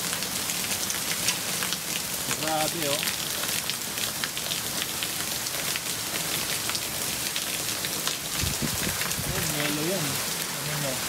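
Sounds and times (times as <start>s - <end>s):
heavy rain hiss: 0.0s - 11.0s
hail pellets ticking: 0.8s - 11.0s.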